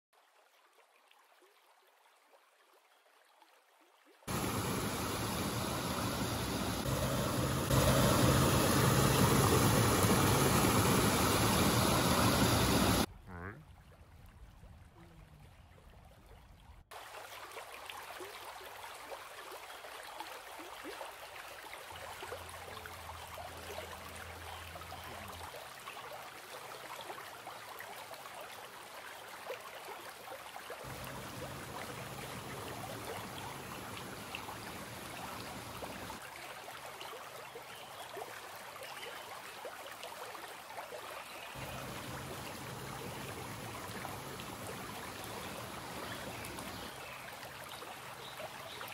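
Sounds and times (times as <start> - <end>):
stream water rushing: 4.3 - 13.1, 16.9 - 37.4, 38.0 - 48.9.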